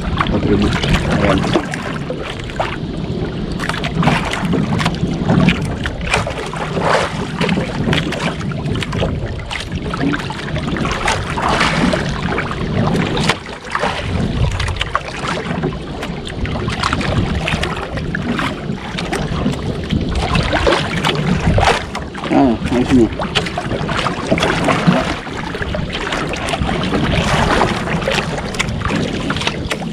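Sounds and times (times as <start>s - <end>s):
knocks and splashes: 0.0s - 29.9s
water slapping against boat hull: 0.0s - 29.9s
wind buffeting microphone: 0.0s - 29.9s.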